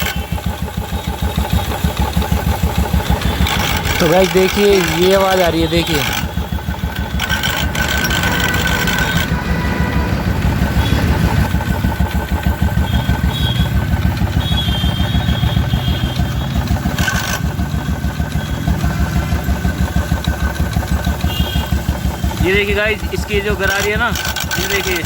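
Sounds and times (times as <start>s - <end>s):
clutch gear rattle: 0.0s - 25.0s
motorcycle engine idling: 0.0s - 25.0s.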